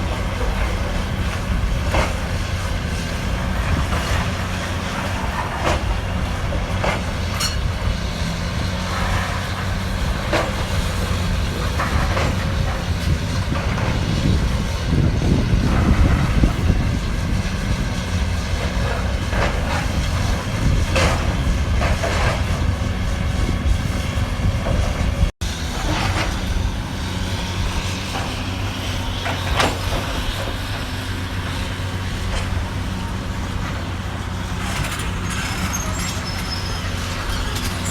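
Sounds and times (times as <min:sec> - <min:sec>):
demolition debris knocks and crunches: 0:00.0 - 0:26.8, 0:27.8 - 0:37.9
excavator diesel engine running: 0:00.0 - 0:37.9.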